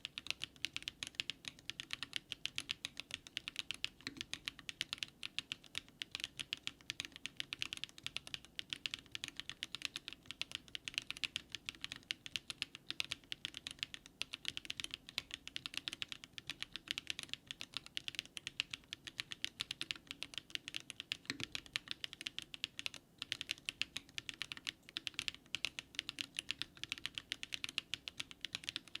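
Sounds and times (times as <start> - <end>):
fast mechanical keyboard typing: 0.0 - 29.0.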